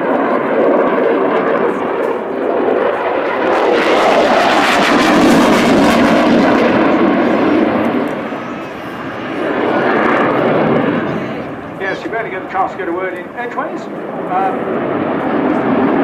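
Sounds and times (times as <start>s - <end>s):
jet engine roar with crackle: 0.0s - 16.0s.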